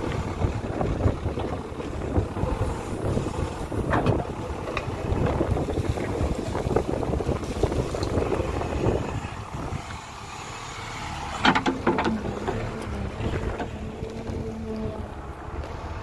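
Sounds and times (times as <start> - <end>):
diesel engine running: 0.0 - 16.0
wind buffeting microphone: 0.0 - 16.0.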